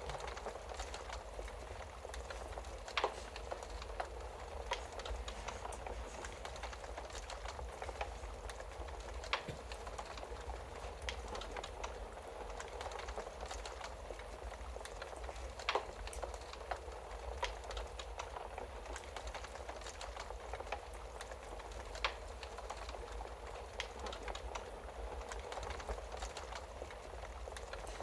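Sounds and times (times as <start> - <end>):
burning wood hissing and snapping: 0.0 - 28.0
loud fire pops: 0.0 - 28.0.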